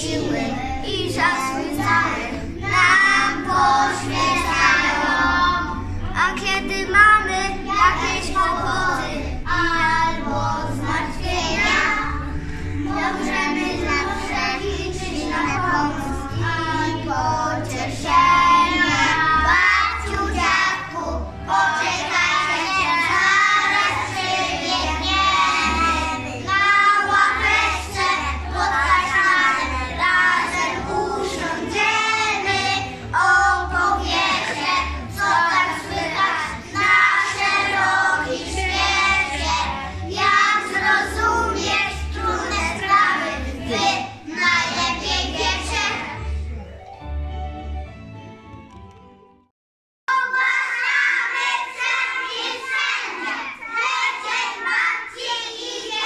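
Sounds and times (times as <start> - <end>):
young children singing: 0.0 - 46.5, 50.1 - 56.0
musical accompaniment: 0.0 - 49.5.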